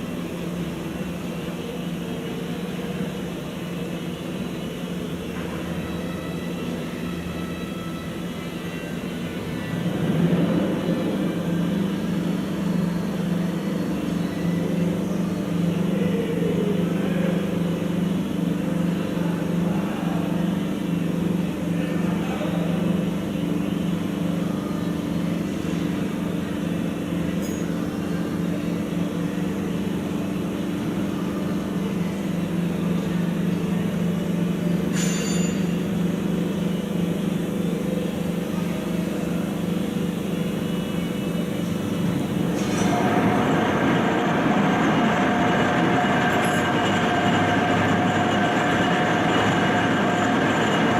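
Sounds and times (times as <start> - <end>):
train engine humming: 0.0 - 50.9.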